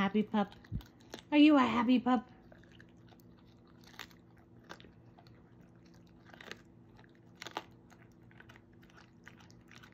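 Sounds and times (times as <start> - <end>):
dog chewing bone wet crunches: 0.0 - 9.9.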